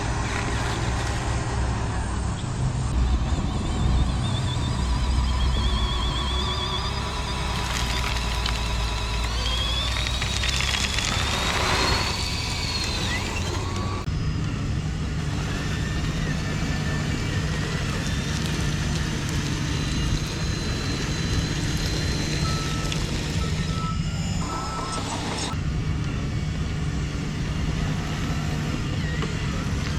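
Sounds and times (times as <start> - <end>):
small electric motors whining: 0.0 - 29.9.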